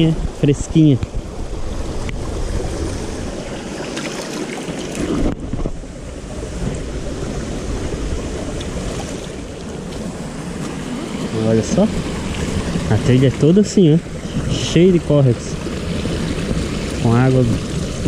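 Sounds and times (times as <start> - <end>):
wind noise on microphone: 0.0 - 3.8, 4.9 - 18.0
stream running over rocks: 0.0 - 18.0.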